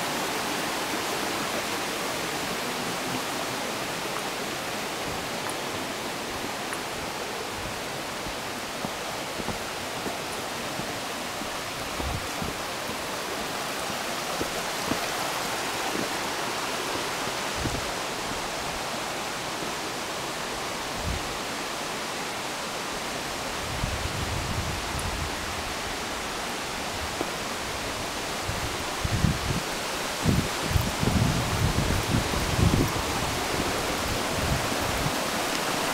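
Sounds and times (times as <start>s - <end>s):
stream and waterfall rushing: 0.0s - 35.9s.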